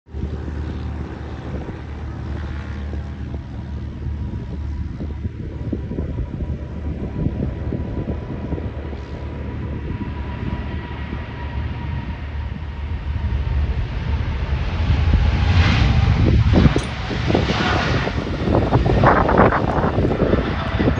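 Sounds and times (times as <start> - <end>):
distant jet engines rumbling: 0.1 - 20.9
faint jet whine: 0.1 - 20.9
wind on microphone: 0.1 - 20.9.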